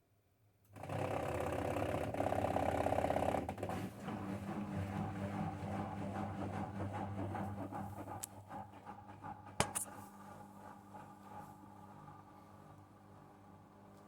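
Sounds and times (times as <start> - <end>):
appliance mechanical hum: 0.7 - 14.0.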